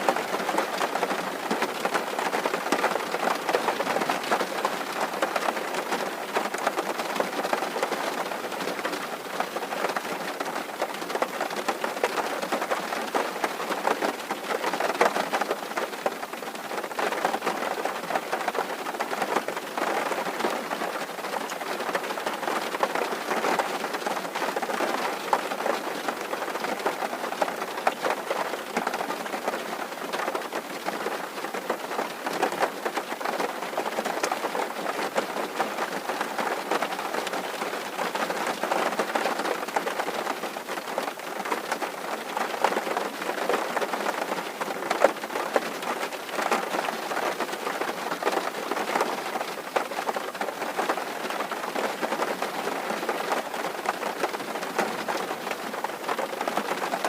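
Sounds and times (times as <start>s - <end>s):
rain drumming on a tin roof: 0.0s - 57.0s.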